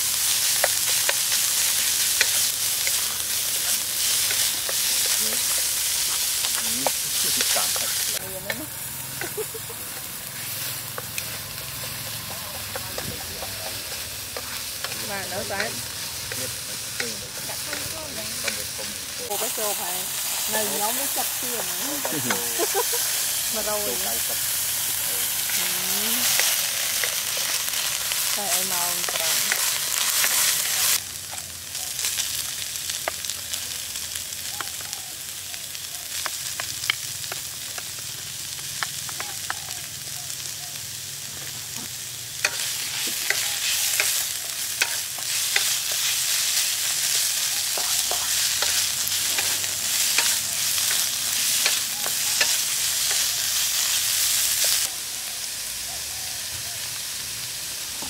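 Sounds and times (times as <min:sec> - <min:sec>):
fish sizzling in a wok: 0:00.0 - 0:58.0.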